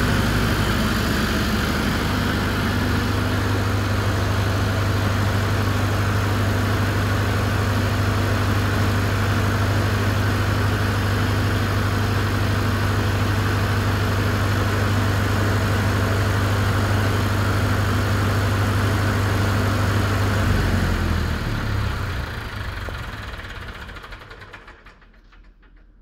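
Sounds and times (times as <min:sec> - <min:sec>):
diesel generator running down: 0:00.0 - 0:26.0.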